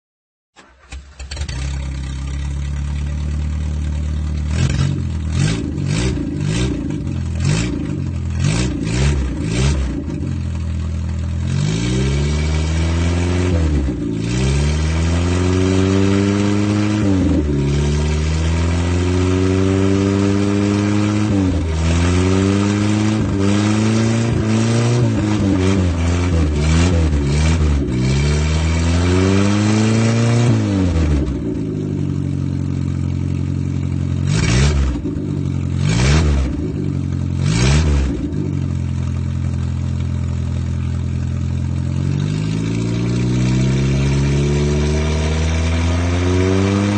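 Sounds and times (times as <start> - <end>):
car engine revving: 0.6 - 46.9.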